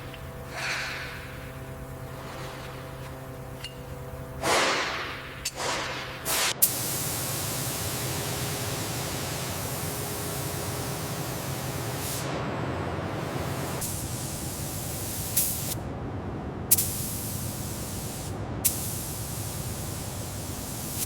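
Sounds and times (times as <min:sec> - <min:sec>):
steady spraying hiss: 0:00.0 - 0:15.8, 0:16.7 - 0:21.0.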